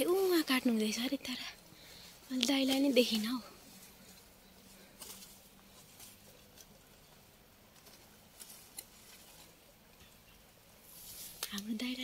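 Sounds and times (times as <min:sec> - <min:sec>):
leaves rustling: 0:00.0 - 0:12.0.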